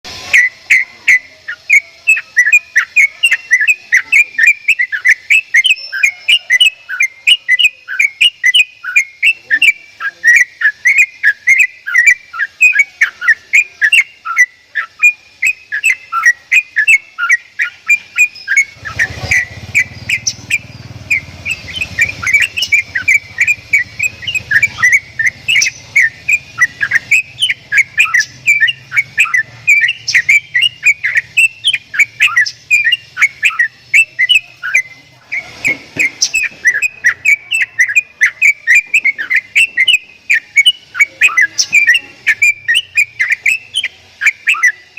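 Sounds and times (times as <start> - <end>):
bird whistling calls: 0.1 - 44.9.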